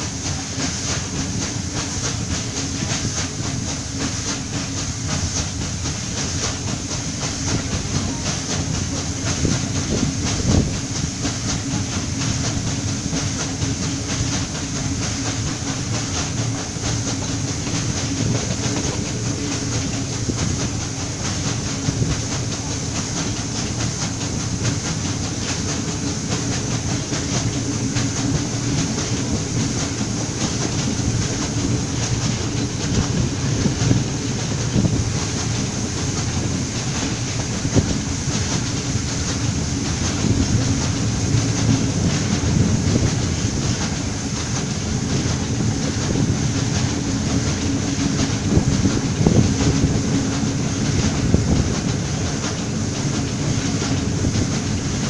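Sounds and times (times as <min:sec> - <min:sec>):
train wheel clicks and knocks: 0:00.0 - 0:55.0
train wheels rumbling on rails: 0:00.0 - 0:55.0.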